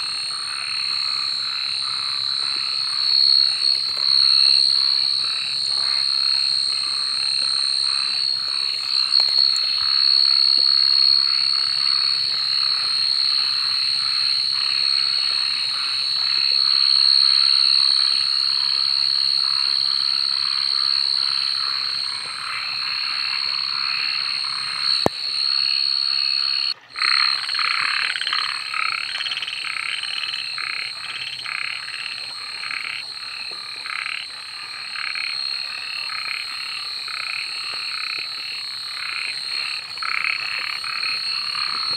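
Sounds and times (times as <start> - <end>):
frogs croaking: 0.0 - 41.9.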